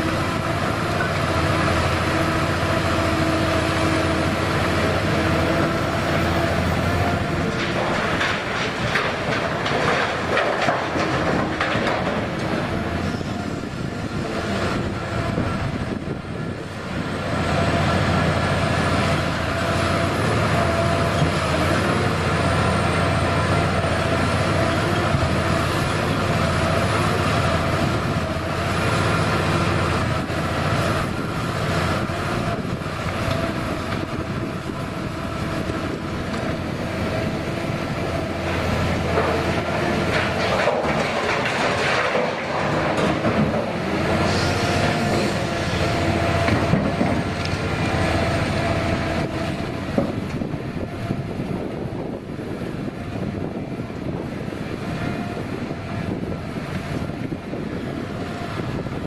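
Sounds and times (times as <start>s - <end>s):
excavator diesel engine whining: 0.0s - 59.0s.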